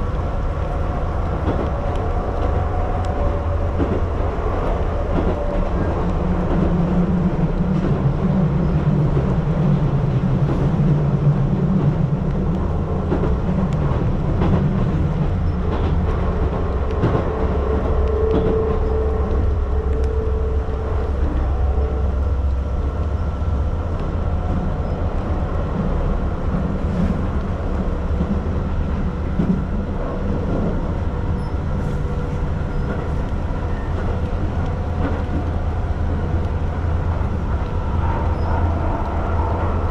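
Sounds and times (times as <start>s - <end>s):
electric train rumble: 0.0s - 39.9s.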